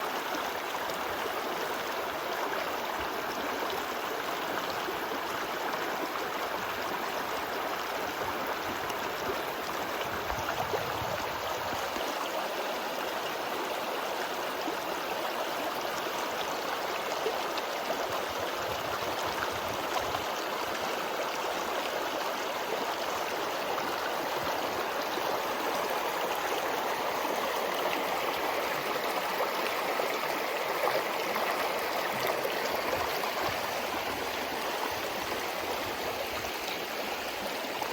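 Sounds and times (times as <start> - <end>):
mountain stream flowing: 0.0 - 37.9.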